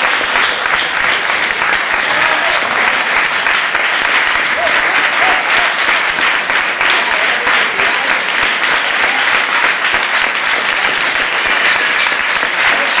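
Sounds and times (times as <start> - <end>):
loud applause: 0.0 - 13.0.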